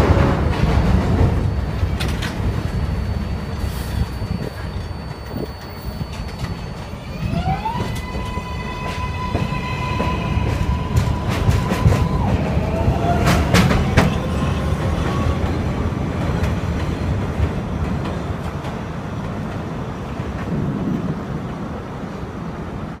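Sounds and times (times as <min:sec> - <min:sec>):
train wheels clacking over rail joints: 0:00.0 - 0:20.8
subway train rumble: 0:00.0 - 0:23.0.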